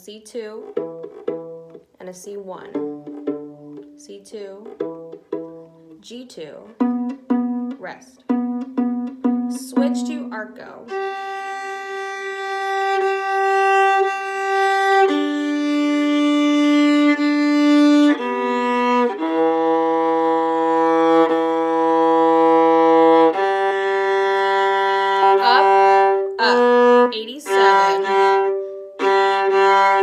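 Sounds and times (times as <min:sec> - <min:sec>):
bowed viola long notes: 0:00.6 - 0:01.8, 0:02.6 - 0:06.0, 0:06.6 - 0:30.0.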